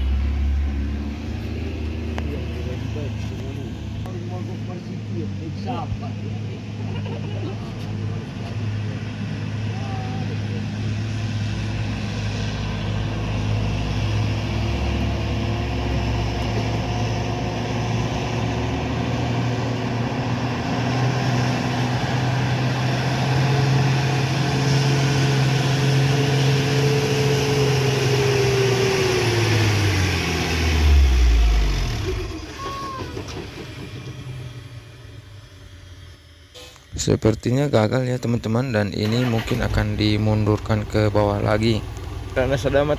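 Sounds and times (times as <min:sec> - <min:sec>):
truck diesel engine labouring: 0:00.0 - 0:42.9.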